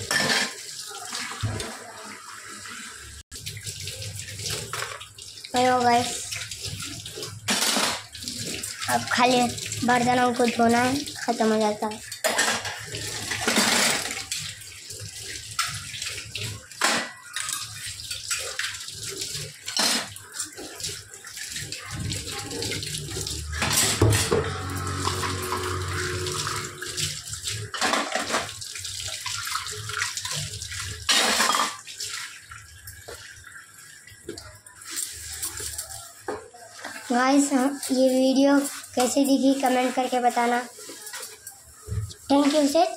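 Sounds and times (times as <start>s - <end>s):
tap water running into sink: 0.0s - 42.9s
water splashing over cups: 0.0s - 42.9s.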